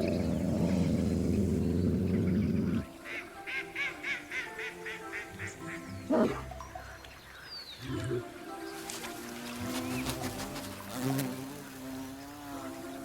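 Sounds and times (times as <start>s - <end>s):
soft music: 0.0s - 13.0s.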